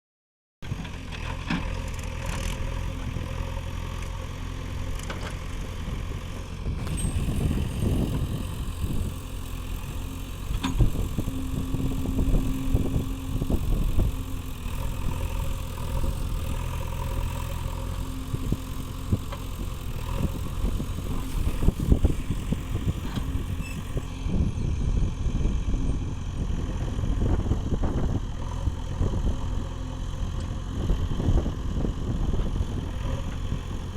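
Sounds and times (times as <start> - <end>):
diesel engine running: 0.6 - 33.9.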